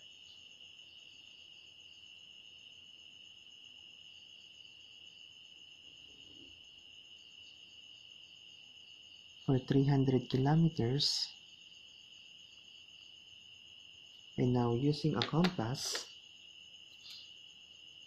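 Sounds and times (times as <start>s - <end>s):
insect trill: 0.0s - 18.0s.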